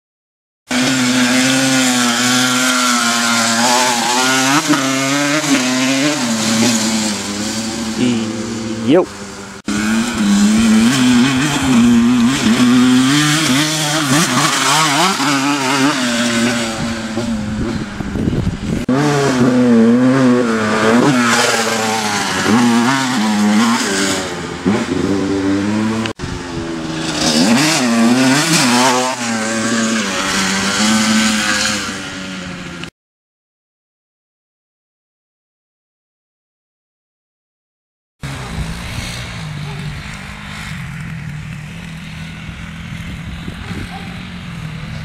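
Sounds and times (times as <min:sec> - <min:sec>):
dirt bike engines revving: 0:00.7 - 0:32.9, 0:38.2 - 0:45.0.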